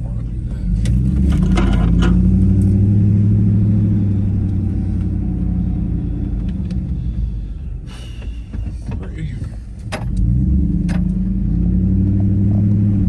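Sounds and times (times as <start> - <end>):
car engine drone: 0.0 - 13.0.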